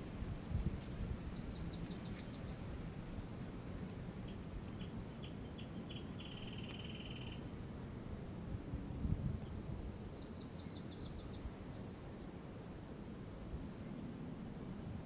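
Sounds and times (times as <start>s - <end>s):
songbirds calling: 0.0s - 7.6s, 8.3s - 13.5s.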